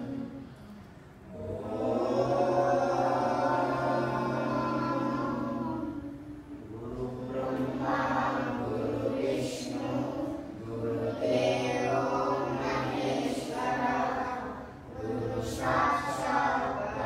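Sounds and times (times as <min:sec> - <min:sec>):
steady low hum: 0:00.0 - 0:17.0
group chanting in unison: 0:01.3 - 0:17.0.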